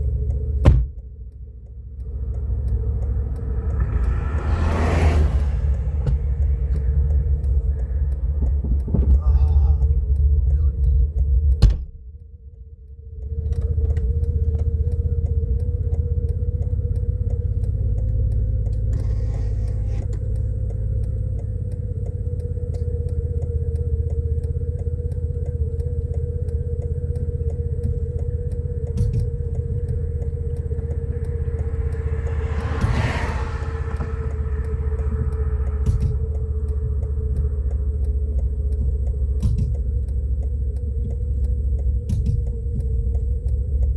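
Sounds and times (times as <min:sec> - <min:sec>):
constant hum: 0:00.0 - 0:43.9
motor vehicle low rumble: 0:00.0 - 0:43.9.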